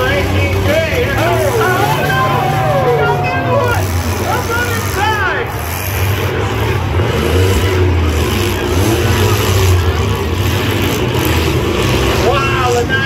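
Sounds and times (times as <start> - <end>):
engines running and revving: 0.0 - 13.0.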